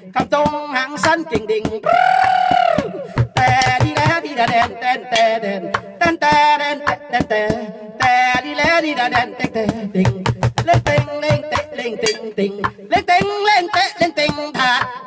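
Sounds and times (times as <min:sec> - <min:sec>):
backing track with drum beat: 0:00.0 - 0:15.0
man singing: 0:00.0 - 0:15.0.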